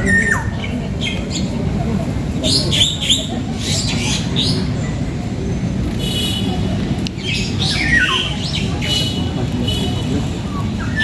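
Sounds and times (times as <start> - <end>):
city traffic hum: 0.0 - 11.0.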